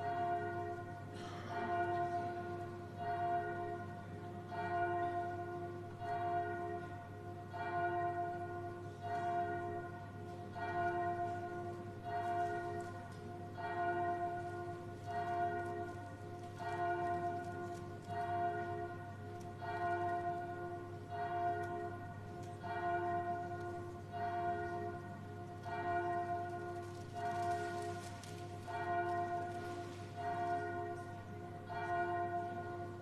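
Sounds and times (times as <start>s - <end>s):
church bell tolling: 0.0s - 33.0s.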